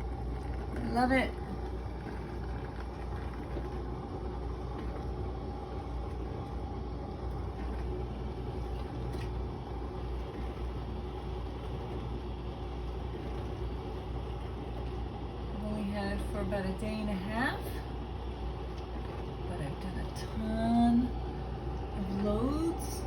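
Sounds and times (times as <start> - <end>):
dishwasher humming and rumbling: 0.0 - 23.0.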